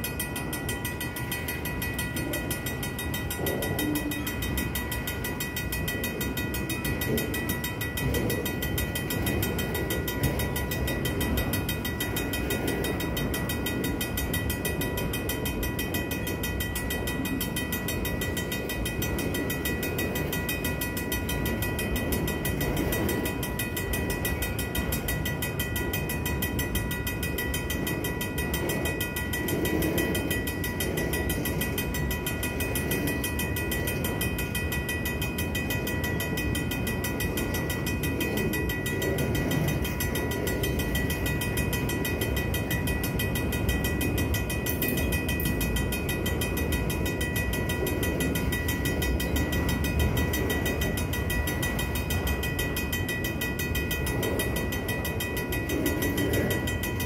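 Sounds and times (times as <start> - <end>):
railroad crossing bell ringing: 0.0 - 57.0.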